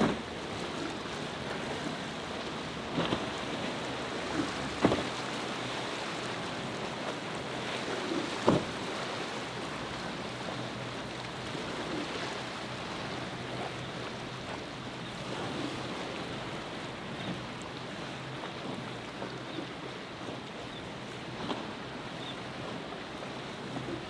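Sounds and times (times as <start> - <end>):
outboard motor humming: 0.0 - 24.0
surf and waves washing: 0.0 - 24.0
wind: 0.0 - 24.0.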